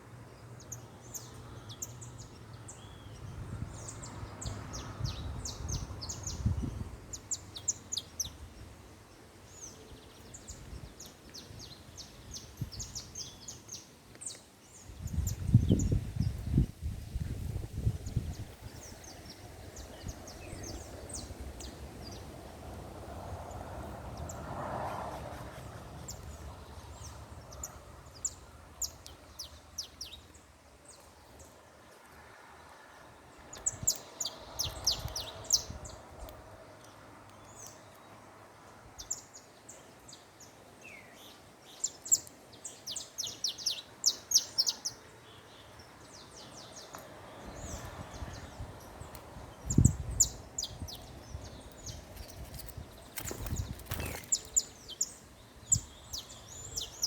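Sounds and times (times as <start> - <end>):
small birds chirping: 0.0 - 22.5, 23.1 - 31.7, 32.6 - 57.0.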